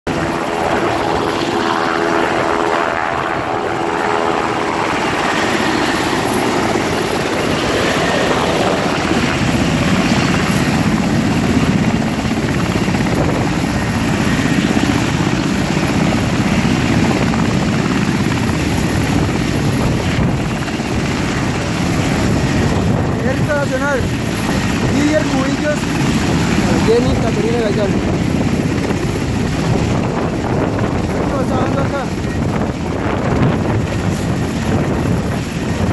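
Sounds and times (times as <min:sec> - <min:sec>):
helicopter rotor beat: 0:00.1 - 0:35.9.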